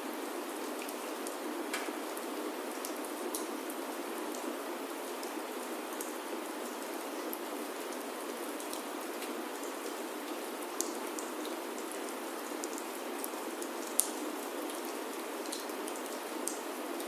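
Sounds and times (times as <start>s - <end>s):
rain on a wooden roof: 0.0s - 17.0s.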